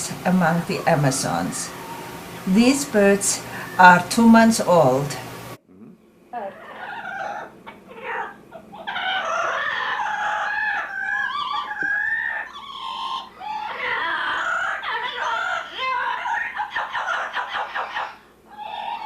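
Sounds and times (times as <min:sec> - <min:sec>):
parrot chicks calling: 0:00.0 - 0:05.5, 0:06.4 - 0:19.0.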